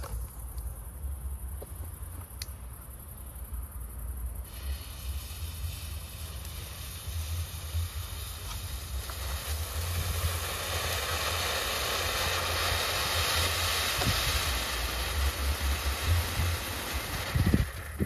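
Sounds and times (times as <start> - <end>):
firework fountain hissing: 3.5 - 18.0.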